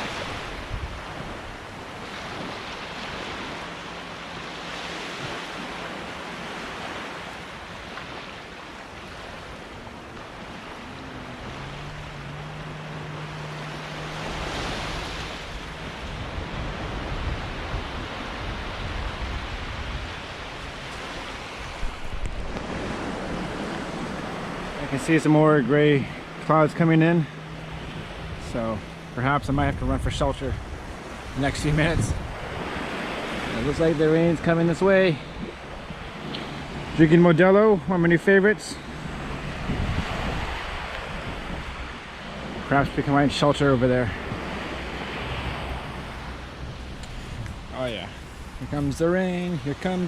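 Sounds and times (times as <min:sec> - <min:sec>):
wind buffeting microphone: 0:00.0 - 0:04.4, 0:08.9 - 0:38.0, 0:38.7 - 0:50.0
sea waves washing onto beach: 0:00.0 - 0:50.0.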